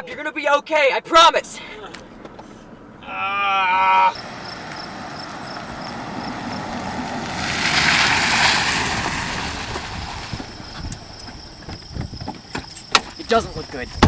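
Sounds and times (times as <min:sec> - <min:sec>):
car passing: 0:01.2 - 0:12.5.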